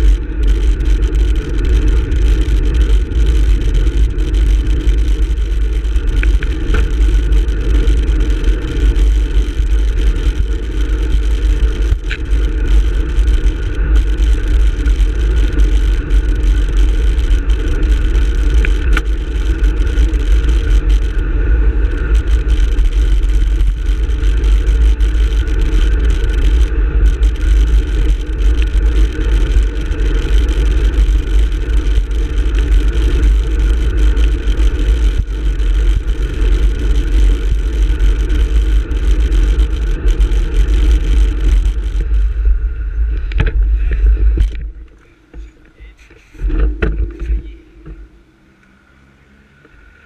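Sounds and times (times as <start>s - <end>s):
wind rushing over microphone: 0.0s - 45.0s
passing road traffic: 0.0s - 50.0s.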